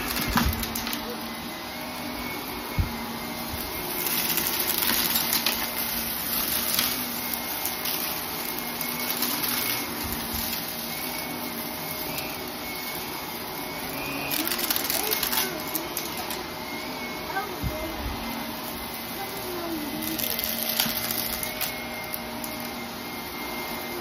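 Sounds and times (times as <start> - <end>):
vacuum cleaner motor humming: 0.0 - 24.0.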